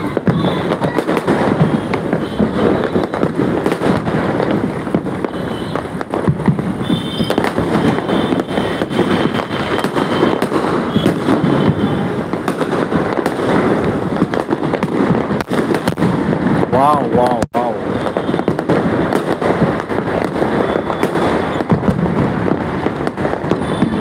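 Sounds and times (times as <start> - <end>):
fireworks and firecrackers banging: 0.0 - 24.0.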